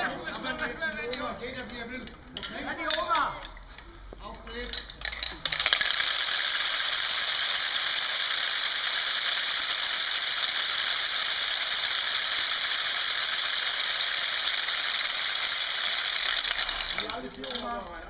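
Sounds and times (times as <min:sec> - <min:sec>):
wooden clappers clattering: 0:01.1 - 0:18.0.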